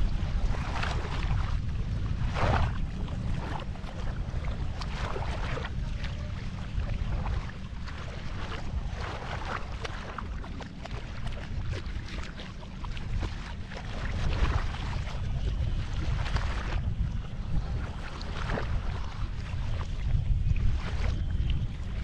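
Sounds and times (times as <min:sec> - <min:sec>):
water splashing against boat: 0:00.0 - 0:22.0
wind rumble on microphone: 0:00.0 - 0:22.0.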